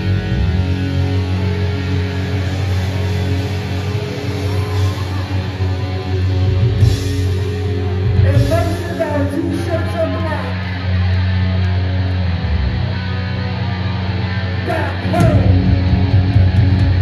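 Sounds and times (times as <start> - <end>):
punk band playing live: 0.0 - 17.0.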